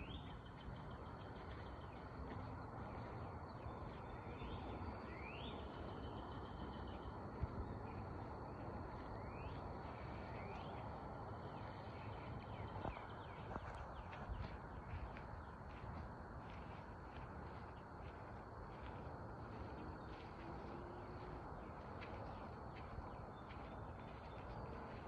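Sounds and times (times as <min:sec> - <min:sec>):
birds chirping: 0:00.0 - 0:25.0
faint outdoor hiss: 0:00.0 - 0:25.0.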